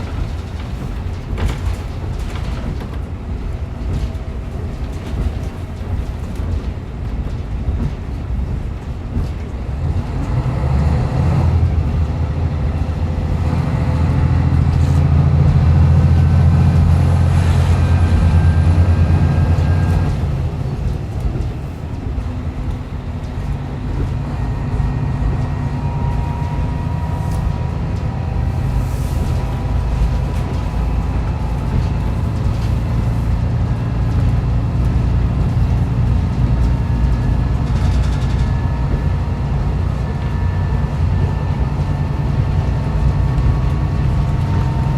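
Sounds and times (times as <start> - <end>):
diesel engine droning: 0.0 - 44.9
wheel and rail rumble: 0.0 - 44.9.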